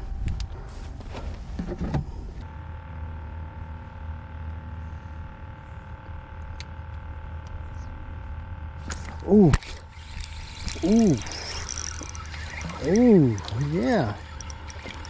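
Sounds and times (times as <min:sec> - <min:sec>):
motor hum over low rumble: 0:00.0 - 0:15.0.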